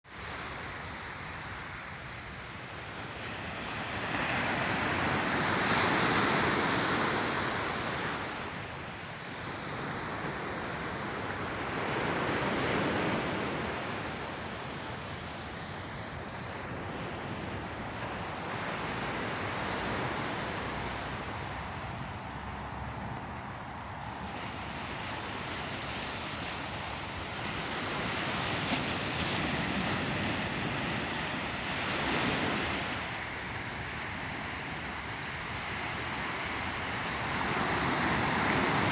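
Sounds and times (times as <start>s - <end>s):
sea waves washing in: 0.1s - 38.9s.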